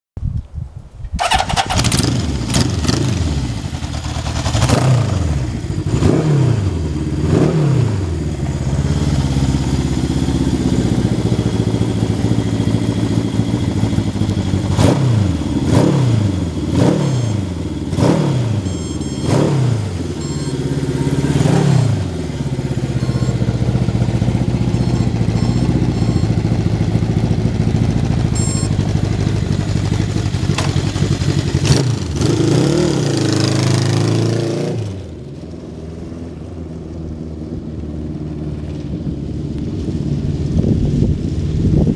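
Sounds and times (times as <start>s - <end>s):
motorcycle engine revving and idling: 1.2s - 41.9s.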